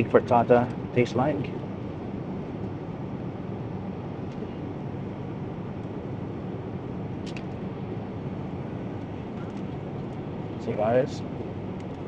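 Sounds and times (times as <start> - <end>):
low cabin rumble: 0.0 - 12.0.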